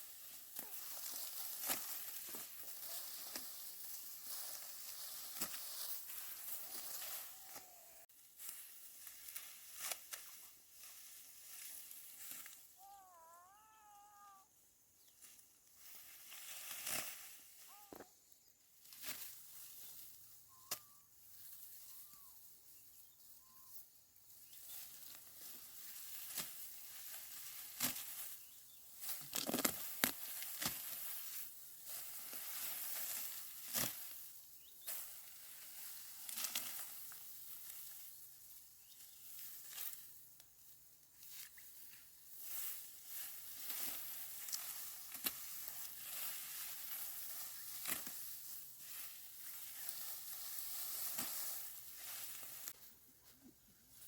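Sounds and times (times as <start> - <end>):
rice stalks rustling and crunching: 0.0 - 13.2, 15.0 - 54.0.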